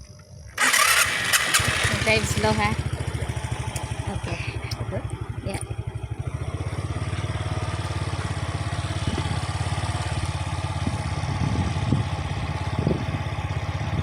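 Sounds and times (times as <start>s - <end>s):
vehicle engine running: 0.6s - 14.0s.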